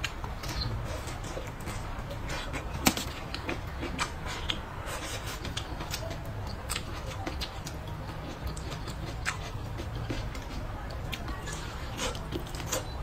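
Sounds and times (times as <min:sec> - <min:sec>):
chewing and wet mouth clicks: 0:00.0 - 0:13.0.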